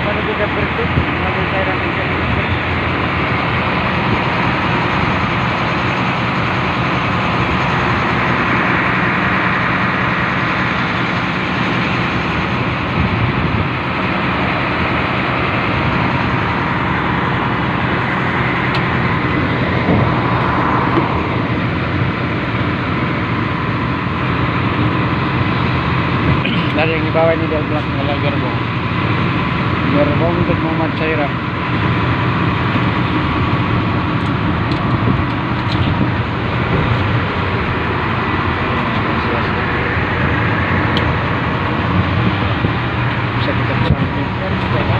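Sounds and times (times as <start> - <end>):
train engine drone: 0.0 - 44.9
train rolling noise: 0.0 - 44.9.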